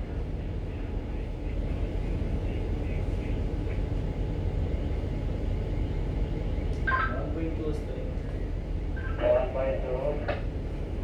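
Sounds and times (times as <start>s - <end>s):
ship engine low rumble: 0.0s - 11.0s.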